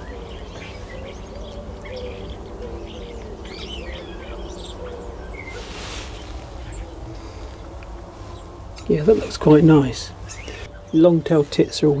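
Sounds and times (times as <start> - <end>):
low background rumble: 0.0 - 11.3
small birds chirping: 0.0 - 12.0.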